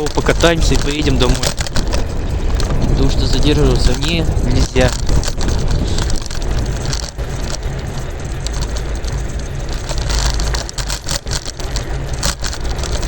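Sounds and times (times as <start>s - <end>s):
scooter wheels rattling on pavement: 0.0s - 13.0s
wind rumbling on microphone: 0.0s - 13.0s.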